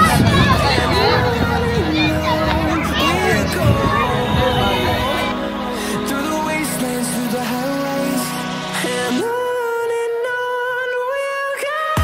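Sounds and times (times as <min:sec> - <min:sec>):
person singing a long note: 0:00.0 - 0:12.0.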